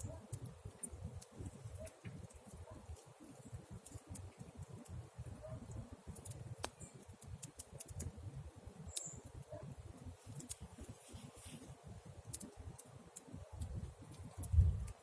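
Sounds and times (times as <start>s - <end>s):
wood crackling and popping: 0.0s - 15.0s.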